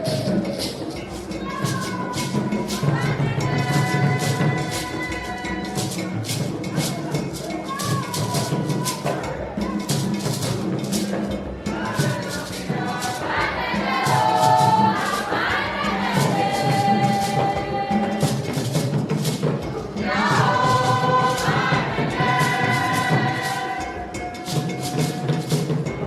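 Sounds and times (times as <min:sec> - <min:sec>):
choir singing long notes: 0:00.0 - 0:06.4, 0:07.8 - 0:26.0
steady drum beat: 0:00.0 - 0:26.0.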